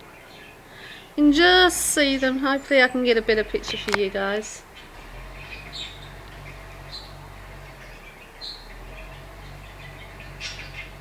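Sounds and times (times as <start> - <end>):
budgerigars chirping: 0.0 - 11.0
steady low hum: 0.0 - 11.0.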